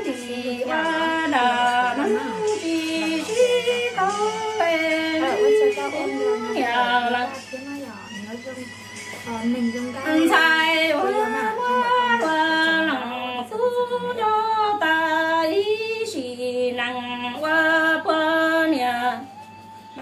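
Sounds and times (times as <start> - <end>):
woman singing unaccompanied: 0.0 - 19.4.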